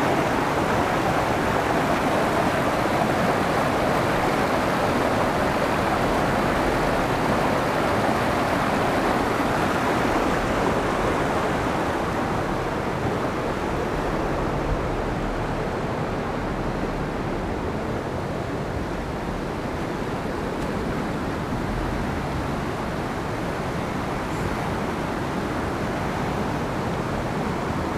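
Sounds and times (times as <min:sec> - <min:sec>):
river rushing over rocks: 0:00.0 - 0:27.9.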